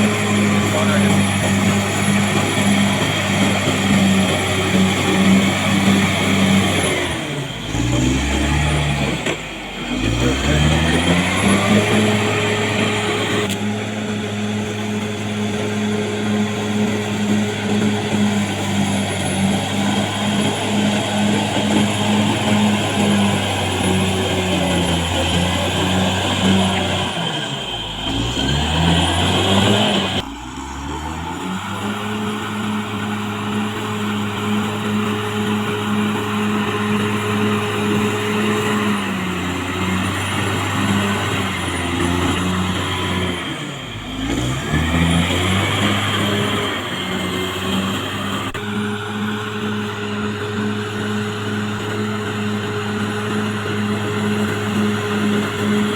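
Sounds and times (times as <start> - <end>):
bulldozer diesel engine drone: 0.0 - 55.9
engine clatter: 0.0 - 55.9.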